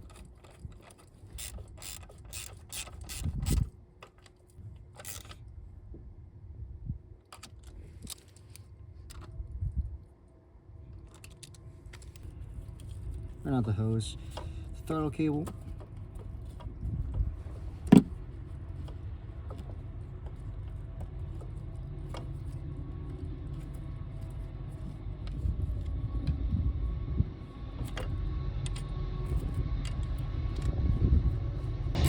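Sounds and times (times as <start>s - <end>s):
steady low rumble: 3.0s - 32.0s.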